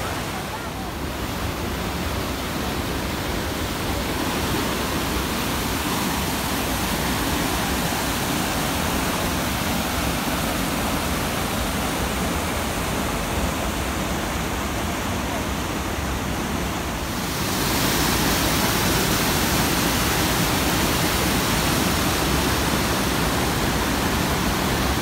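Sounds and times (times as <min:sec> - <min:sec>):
white-water rapids rushing: 0:00.0 - 0:25.0.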